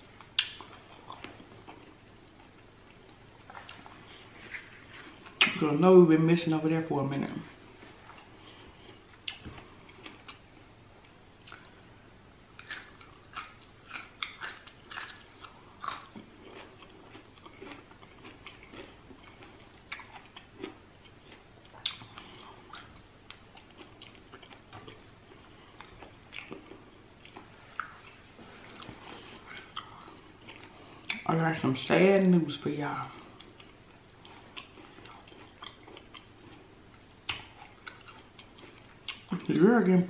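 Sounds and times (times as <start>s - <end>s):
quiet chewing: 0.0s - 5.6s, 7.7s - 11.9s, 12.5s - 31.3s, 33.1s - 39.7s.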